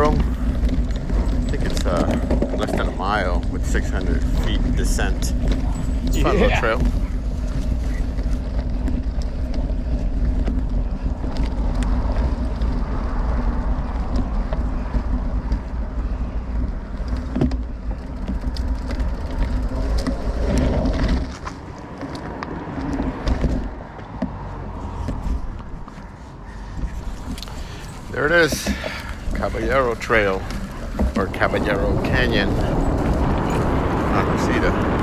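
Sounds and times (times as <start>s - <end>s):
bike tyres rolling over dirt: 0.0s - 35.0s
low rumble: 0.0s - 35.0s
wind buffeting microphone: 0.0s - 35.0s.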